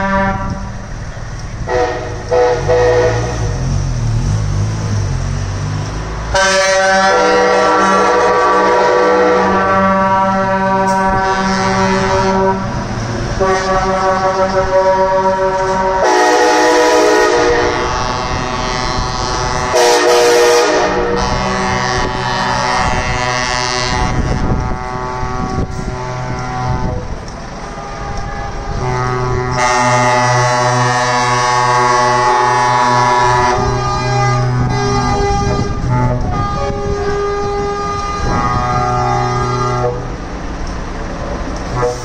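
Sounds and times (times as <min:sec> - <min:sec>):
truck air horns blowing: 0:00.0 - 0:00.8, 0:01.6 - 0:03.6, 0:06.3 - 0:40.2, 0:41.7 - 0:42.0.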